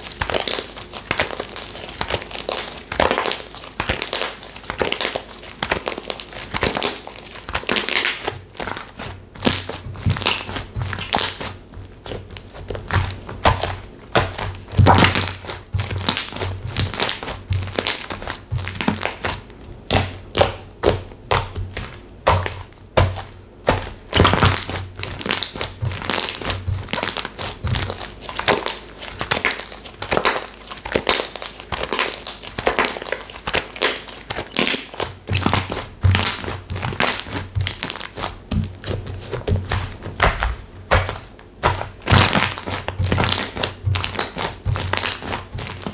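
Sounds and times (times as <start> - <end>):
slime crackling and popping: 0.0 - 45.9.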